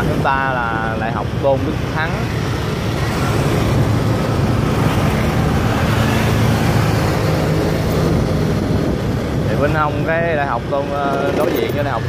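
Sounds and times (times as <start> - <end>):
motorbike engine hum: 0.0 - 12.0
road noise: 0.0 - 12.0.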